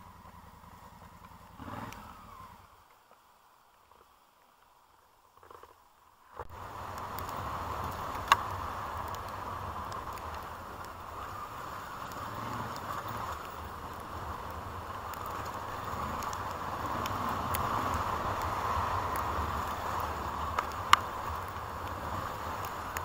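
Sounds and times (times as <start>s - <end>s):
vehicle rumbling on gravel: 0.0s - 3.0s, 6.4s - 23.0s.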